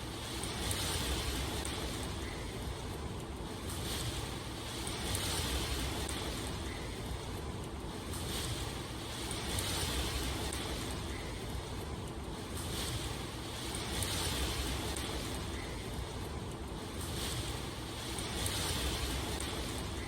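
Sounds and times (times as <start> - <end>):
falling rain hiss: 0.0 - 20.0.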